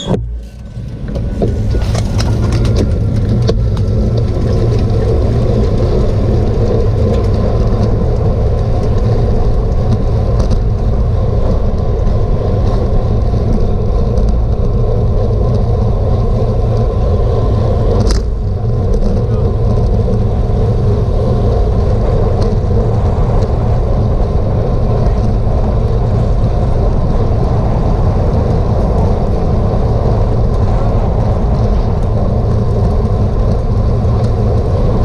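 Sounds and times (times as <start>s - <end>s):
wind and road rush: 0.0s - 35.0s.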